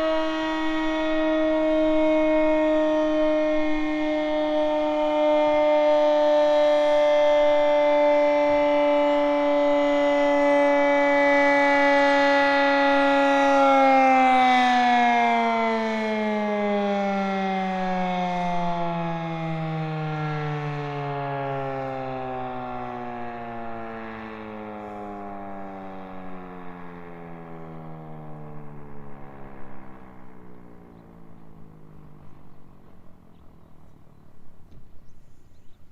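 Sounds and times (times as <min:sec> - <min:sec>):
warning siren wailing: 0:00.0 - 0:35.4.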